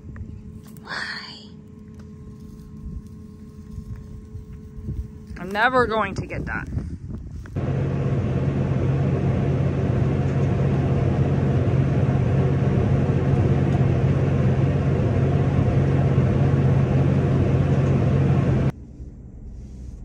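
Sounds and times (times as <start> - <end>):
tractor engine low drone: 0.0 - 20.0.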